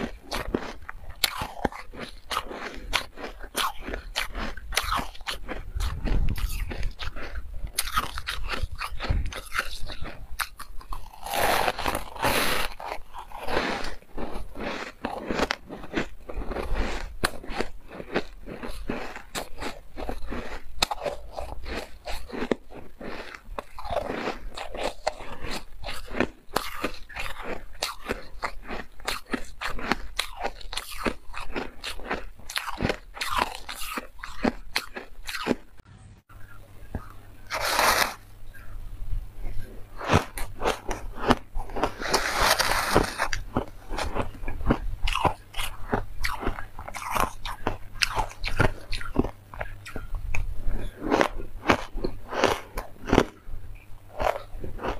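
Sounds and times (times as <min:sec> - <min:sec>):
ice crunching being chewed: 0:00.0 - 0:35.8, 0:39.4 - 0:54.9.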